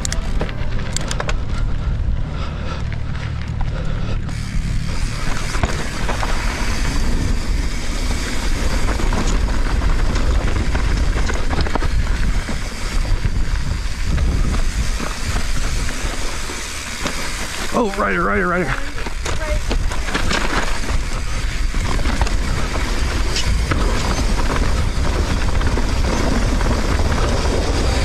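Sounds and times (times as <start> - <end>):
bike chain rattling: 0.0 - 28.0
tyres rolling over dirt: 0.0 - 28.0
wind buffeting microphone: 0.0 - 28.0.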